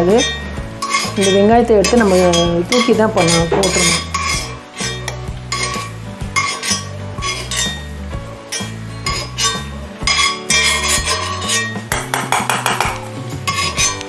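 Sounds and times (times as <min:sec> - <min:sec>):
background music with bass line: 0:00.0 - 0:14.0
spoon scraping a skillet: 0:00.0 - 0:14.0.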